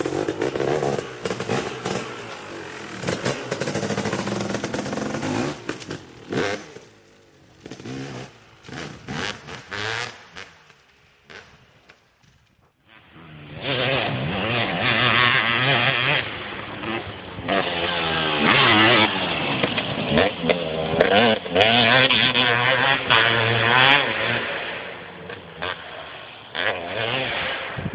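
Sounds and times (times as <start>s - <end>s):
two-stroke engine revving: 0.0s - 12.0s, 12.9s - 27.9s.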